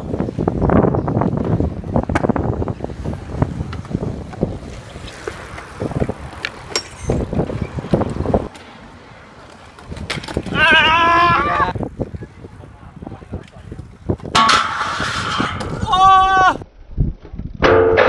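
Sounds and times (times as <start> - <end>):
wind buffeting microphone: 0.0 - 8.5, 9.7 - 17.6
bike tyres rolling on concrete: 0.0 - 17.6.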